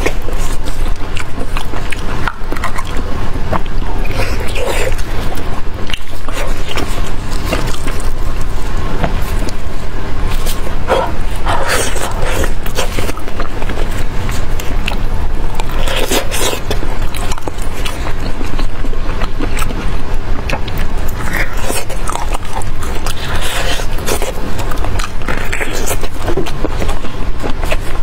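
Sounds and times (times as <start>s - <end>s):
meat tearing: 0.0s - 19.8s, 20.4s - 28.0s
chewing with wet smacks: 0.0s - 28.0s
steady low rumble: 0.0s - 28.0s.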